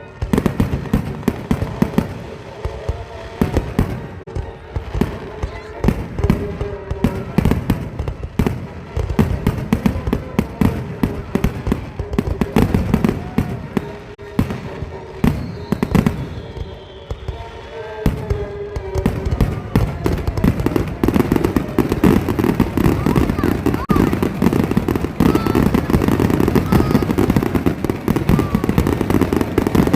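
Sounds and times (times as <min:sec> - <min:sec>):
fireworks bangs and pops: 0:00.0 - 0:29.9.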